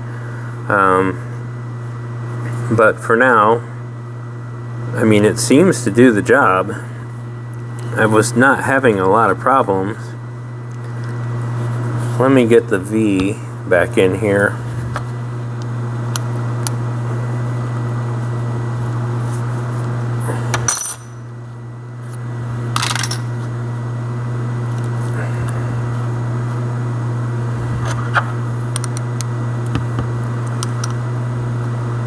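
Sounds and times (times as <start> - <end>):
power carver buzzing hum: 0.0 - 32.0.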